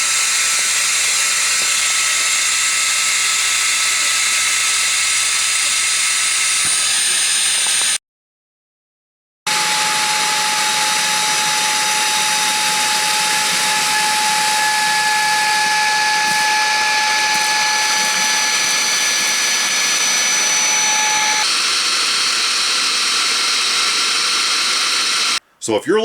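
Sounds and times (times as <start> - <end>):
handheld vacuum running: 0.0 - 8.0, 9.5 - 25.4.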